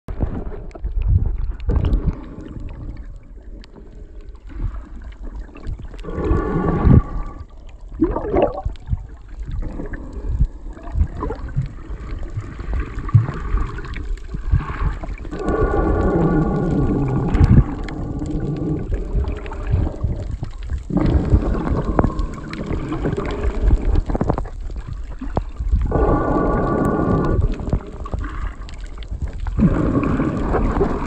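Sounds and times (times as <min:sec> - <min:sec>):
underwater bubbling gurgles: 0:00.1 - 0:31.0
underwater rumble of moving water: 0:00.1 - 0:31.0.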